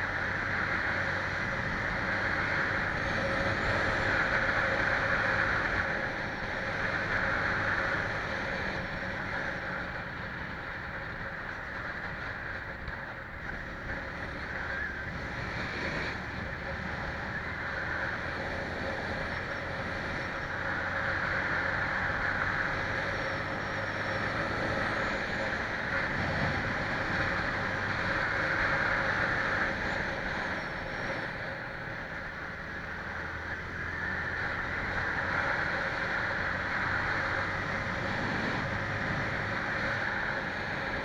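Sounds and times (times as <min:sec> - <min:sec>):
road and wind noise: 0:00.0 - 0:41.0.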